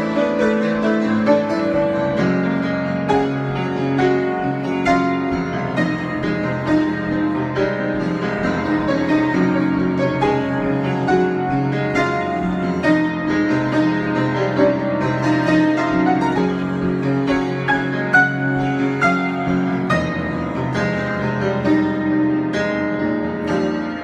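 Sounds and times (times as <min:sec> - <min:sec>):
solo piano improvisation: 0:00.0 - 0:24.0.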